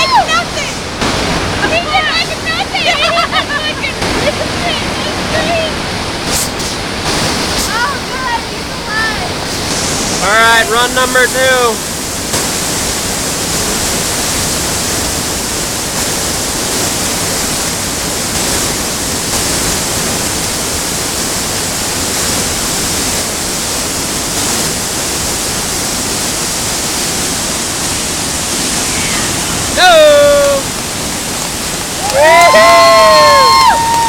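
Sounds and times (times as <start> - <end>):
whitewater rushing: 0.0 - 34.0.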